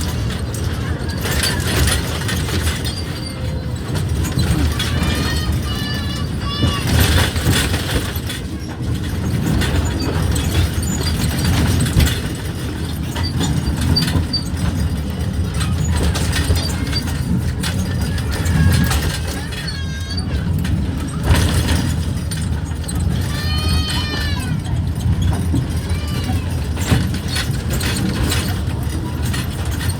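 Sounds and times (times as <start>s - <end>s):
small train rumbling: 0.0s - 29.9s
train cars rattling: 0.0s - 29.9s.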